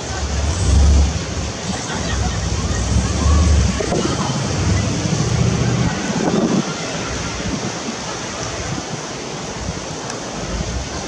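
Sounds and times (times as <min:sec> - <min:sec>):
wind blowing on microphone: 0:00.0 - 0:11.0.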